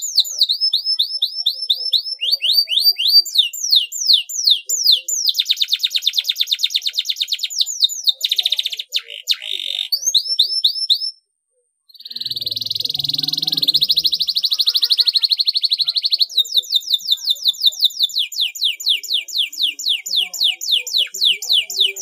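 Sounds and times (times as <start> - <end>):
canary singing: 0.0 - 11.2, 11.9 - 22.0.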